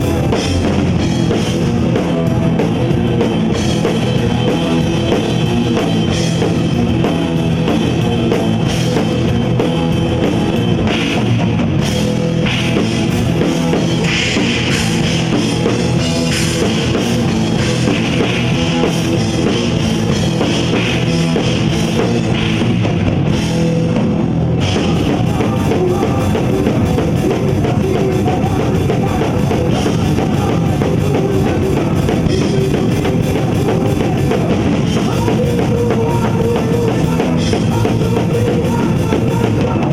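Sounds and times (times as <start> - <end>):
drum kit: 0.0 - 39.9
rock band playing: 0.0 - 39.9.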